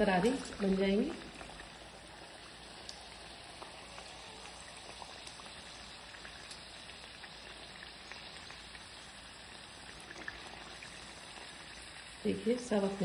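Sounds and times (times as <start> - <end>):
dough frying in oil: 0.0 - 13.0.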